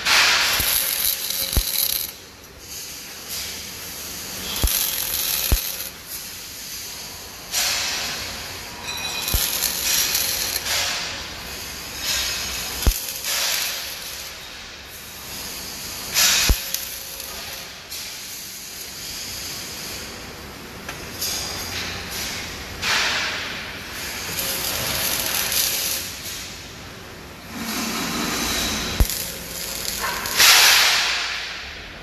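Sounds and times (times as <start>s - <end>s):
arc welding crackling hiss: 0.0s - 20.6s, 21.2s - 32.0s.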